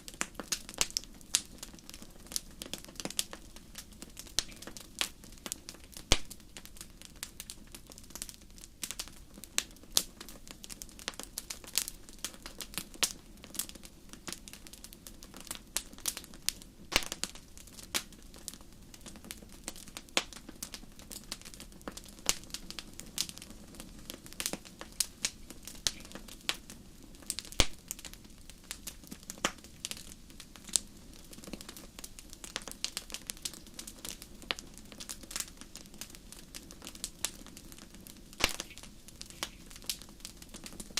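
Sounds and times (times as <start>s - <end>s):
fire pops and snaps: 0.0s - 40.9s
low rush of burning fire: 0.0s - 40.9s.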